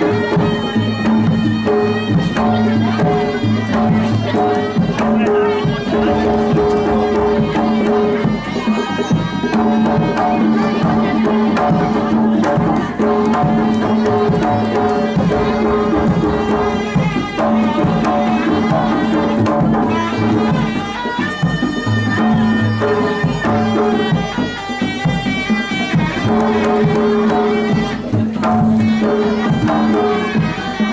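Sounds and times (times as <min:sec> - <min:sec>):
hand drums playing: 0:00.0 - 0:30.9.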